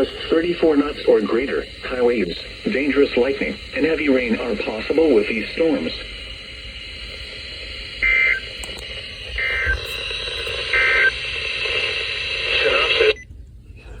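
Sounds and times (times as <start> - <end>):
buzzy two-tone data bursts: 0.0 - 12.3
steady radio hiss: 0.0 - 14.0.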